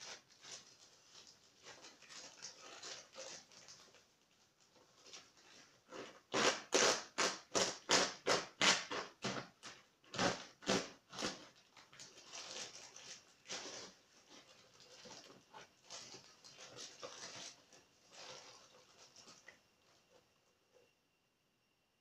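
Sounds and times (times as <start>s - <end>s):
plastic mailer bag tearing: 0.0s - 4.0s, 5.0s - 19.4s
plastic and cardboard rustling: 0.0s - 20.8s.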